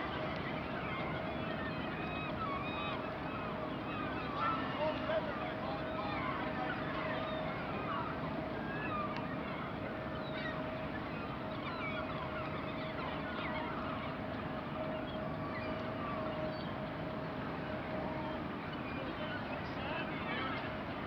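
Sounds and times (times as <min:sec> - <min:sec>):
seabirds calling: 0:00.0 - 0:21.0.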